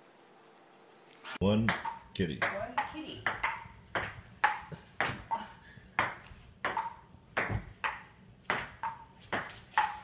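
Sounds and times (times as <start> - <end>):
table tennis ball rally: 1.6 - 10.0.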